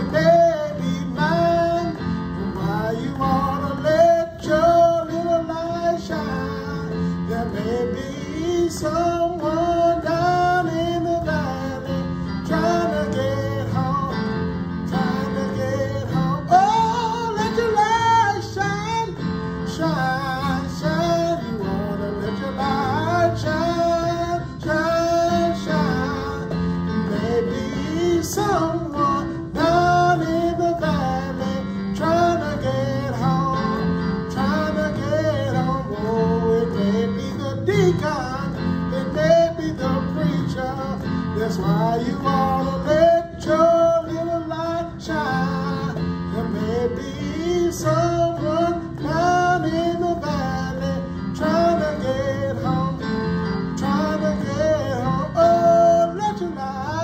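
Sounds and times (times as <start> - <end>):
electronic keyboard: 0.0 - 57.0
man singing: 0.0 - 57.0.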